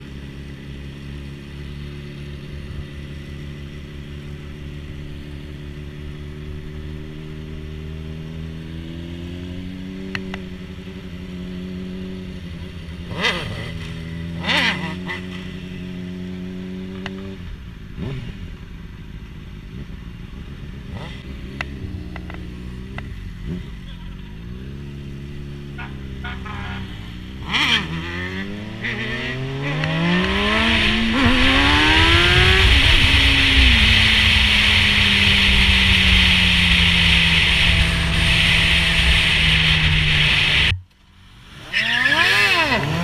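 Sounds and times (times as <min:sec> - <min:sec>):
motorcycle engine running: 0:00.0 - 0:41.5.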